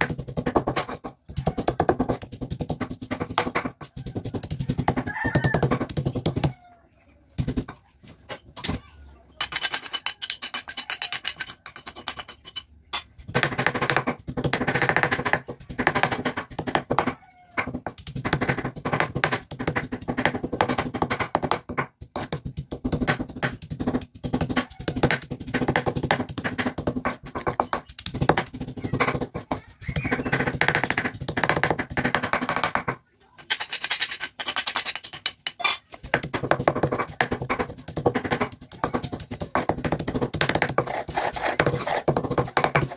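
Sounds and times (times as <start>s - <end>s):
stone pestle grinding paste: 0.0s - 6.5s, 9.4s - 42.9s.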